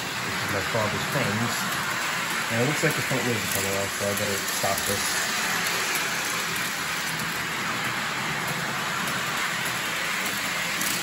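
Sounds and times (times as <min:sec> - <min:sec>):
model train rattling on track: 0:00.0 - 0:11.0.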